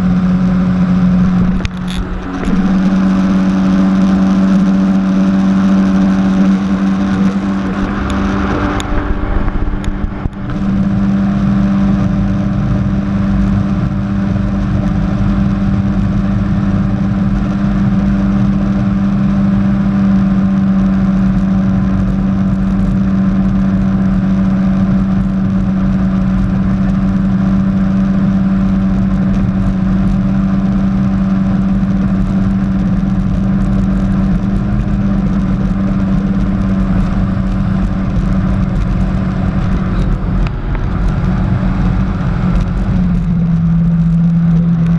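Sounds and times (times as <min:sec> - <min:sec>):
jet ski engine running: 0:00.0 - 0:44.9.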